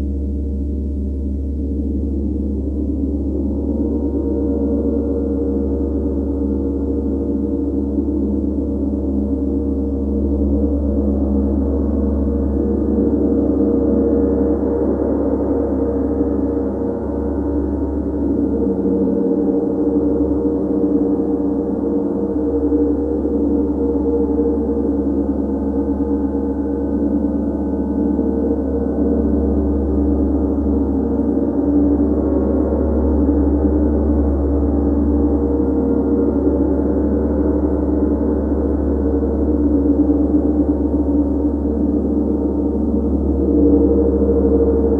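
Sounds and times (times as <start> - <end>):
sustained gong wash: 0.0 - 44.9.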